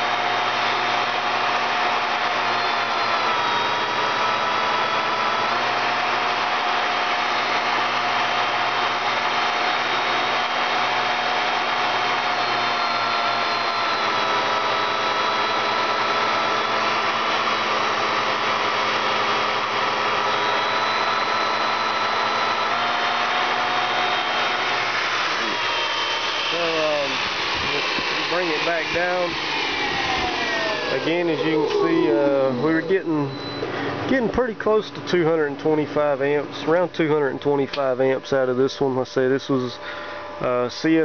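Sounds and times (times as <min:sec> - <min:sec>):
high whining tones: 0:00.0 - 0:41.0
motor driving alternator whirring: 0:00.0 - 0:41.0.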